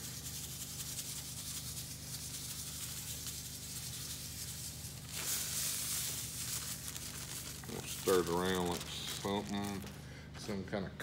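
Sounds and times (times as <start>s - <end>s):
salt pouring into plastic bin: 0.0s - 9.9s.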